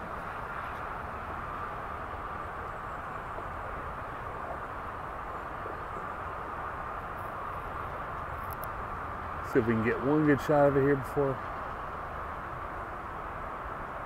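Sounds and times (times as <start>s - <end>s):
highway traffic hum: 0.0s - 14.0s
wind: 0.0s - 14.0s.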